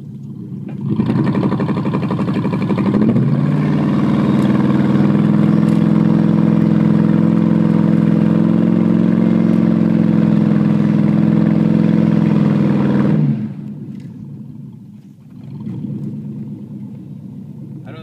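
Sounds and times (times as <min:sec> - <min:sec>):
tires spinning in mud: 0:00.0 - 0:18.0
truck engine revving: 0:00.0 - 0:18.0.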